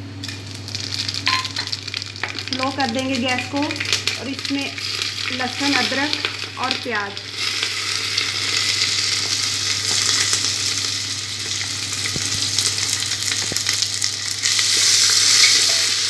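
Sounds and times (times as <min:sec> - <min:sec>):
onions sizzling in hot oil: 0:00.2 - 0:16.0.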